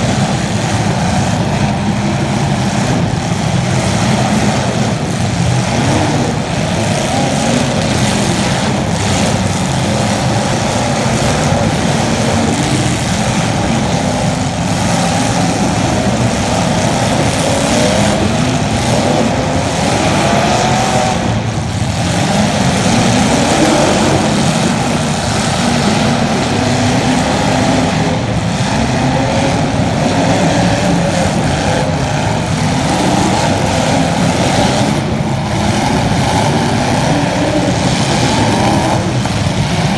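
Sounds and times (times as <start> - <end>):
small racing engines revving: 0.0 - 39.9.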